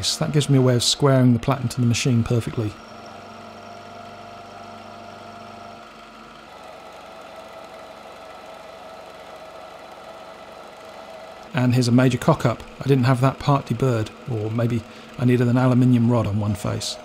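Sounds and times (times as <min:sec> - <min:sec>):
milling machine cutting metal: 0:00.0 - 0:17.0.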